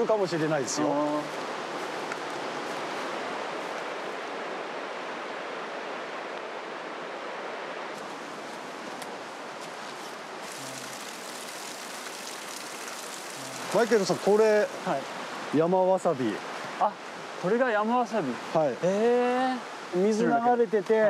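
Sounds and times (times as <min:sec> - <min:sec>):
stream rushing over pebbles: 0:00.0 - 0:21.0.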